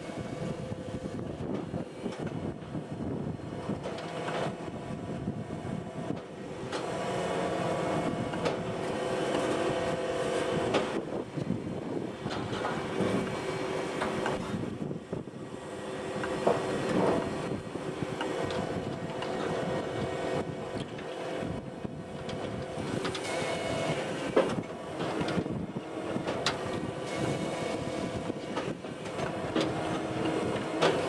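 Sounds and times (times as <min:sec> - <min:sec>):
conveyor hum and rattle: 0:00.0 - 0:31.0.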